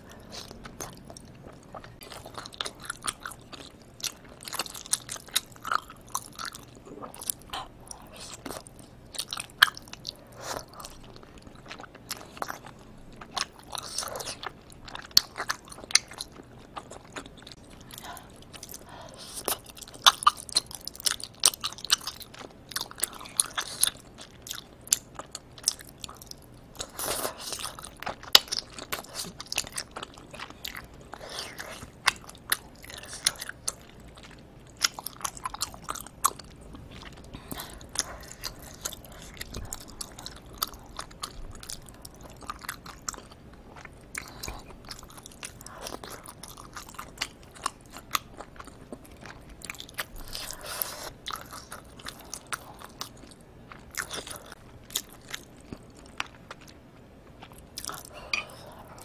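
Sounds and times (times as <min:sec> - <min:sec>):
person chewing rice cakes: 0:00.0 - 0:59.0.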